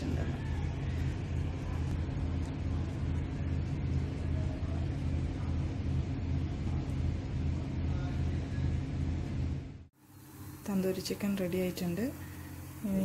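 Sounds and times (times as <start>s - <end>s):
rotisserie oven humming: 0.0s - 13.0s.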